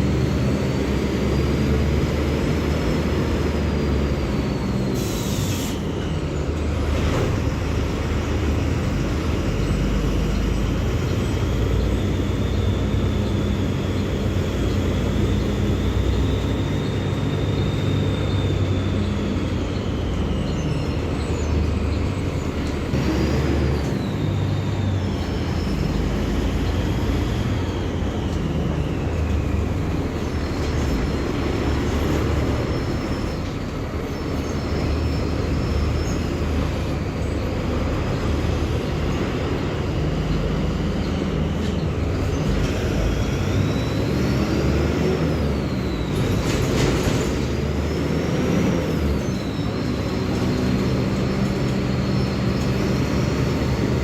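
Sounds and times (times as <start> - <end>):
bus diesel engine running: 0.0 - 54.0
high engine whine: 0.0 - 54.0.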